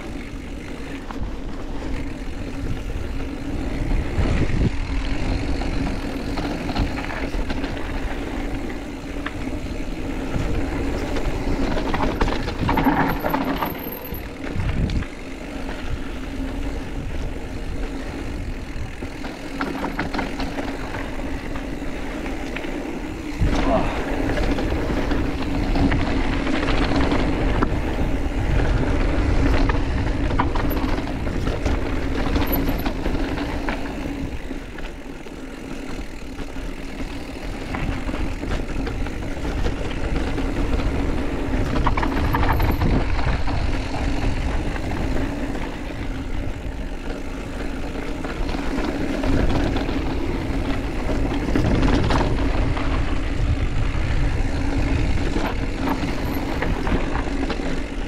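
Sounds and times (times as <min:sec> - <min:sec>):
wind noise on microphone: 0:00.0 - 0:22.0, 0:23.0 - 0:34.8, 0:35.9 - 0:58.0
bike tyres rolling and rattling: 0:00.0 - 0:58.0.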